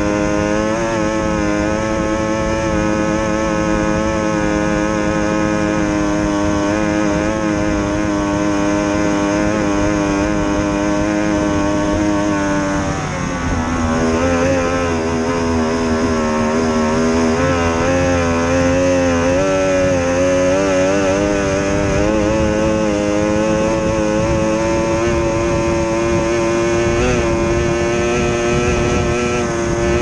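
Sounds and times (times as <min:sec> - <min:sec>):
outboard motor running hard: 0:00.0 - 0:30.0.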